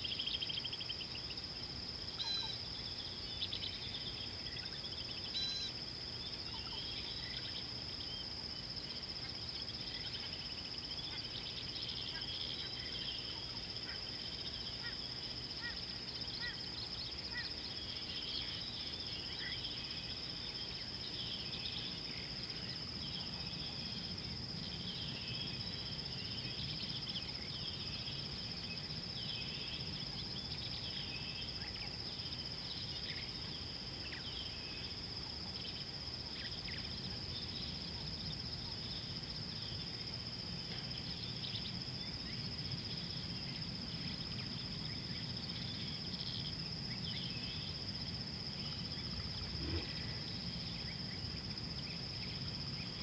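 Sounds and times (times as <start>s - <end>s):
low background noise: 0.0s - 53.0s.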